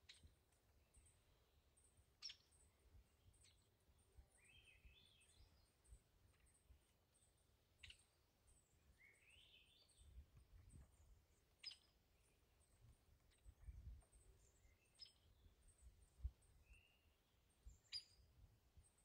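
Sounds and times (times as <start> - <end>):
distant songbird chirping: 0.0 - 19.0.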